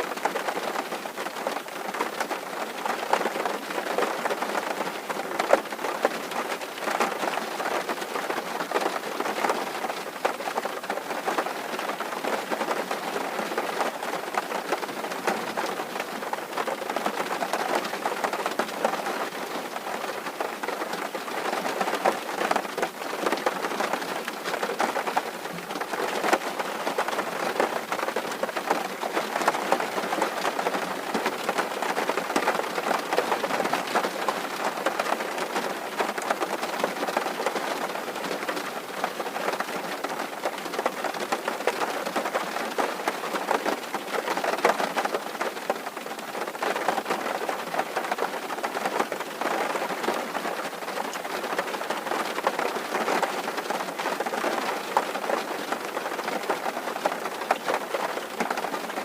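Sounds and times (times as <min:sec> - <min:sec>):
rain drumming on a tin roof: 0:00.0 - 0:59.0.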